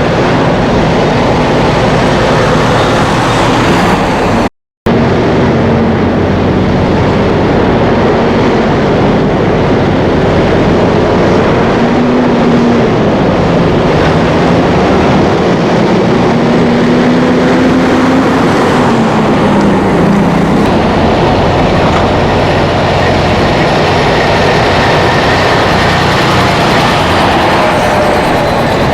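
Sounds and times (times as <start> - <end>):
heavy vehicles rumbling past: 0.0 - 28.9
low hum rising and falling: 0.0 - 28.9.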